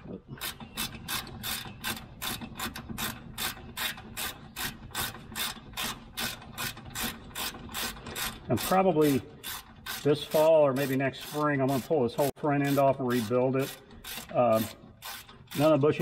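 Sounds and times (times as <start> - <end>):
ratchet wrench clicking: 0.4 - 11.9, 12.6 - 15.8.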